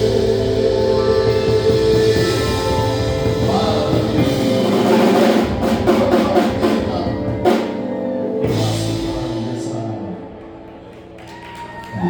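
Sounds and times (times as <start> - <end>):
live band music: 0.0 - 9.9.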